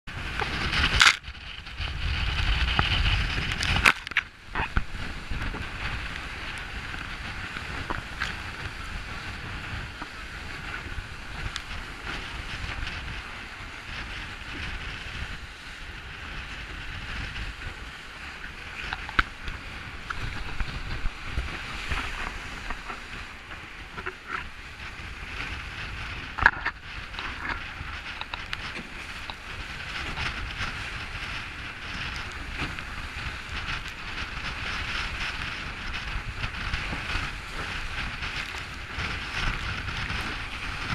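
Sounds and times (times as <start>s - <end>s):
water slaps and spray: 0.1s - 15.4s, 18.4s - 40.9s
water rushing past hull: 0.1s - 40.9s
wind on microphone: 0.1s - 40.9s.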